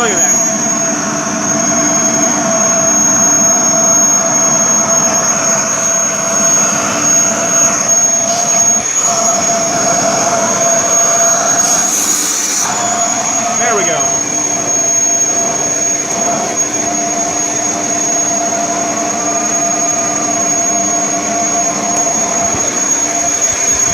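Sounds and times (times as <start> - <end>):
vacuum cleaner motor whine: 0.0 - 23.9.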